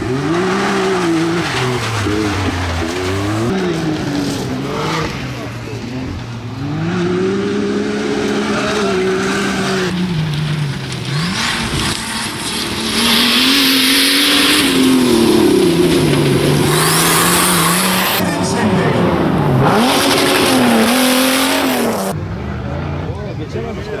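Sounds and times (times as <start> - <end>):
tyres churning dirt: 0.0 - 23.0
off-road engines revving: 0.0 - 24.0.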